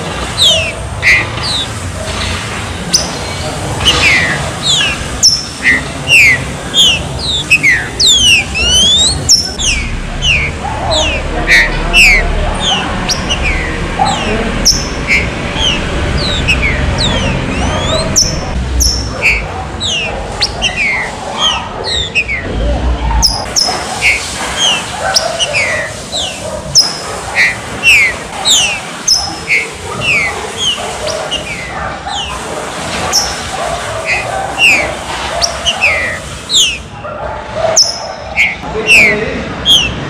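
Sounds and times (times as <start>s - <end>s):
birds calling with falling notes: 0.0s - 37.0s, 37.6s - 40.0s.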